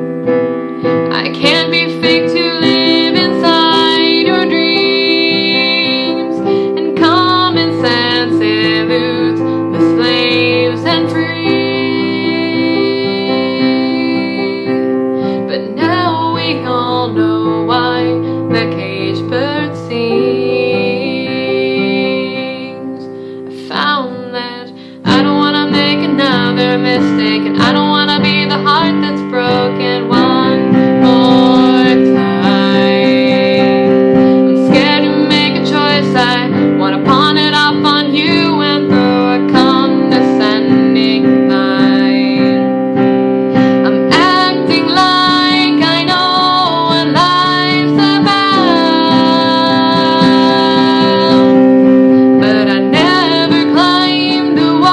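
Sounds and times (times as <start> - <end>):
woman singing a ballad: 0.0 - 54.9.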